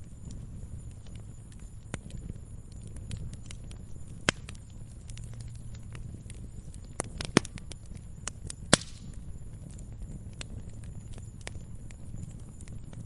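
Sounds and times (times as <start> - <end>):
fire burning rumble: 0.0 - 13.0
fire pops and snaps: 0.0 - 13.0.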